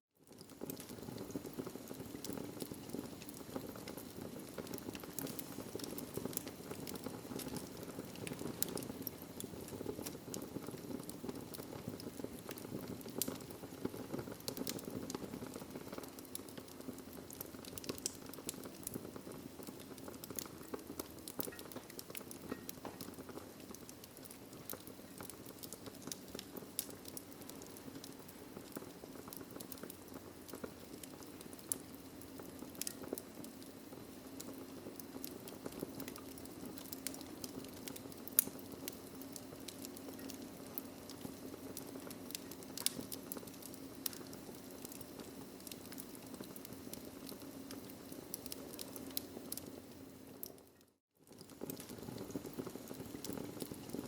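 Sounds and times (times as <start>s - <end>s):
fire crackling and popping: 0.2s - 54.0s.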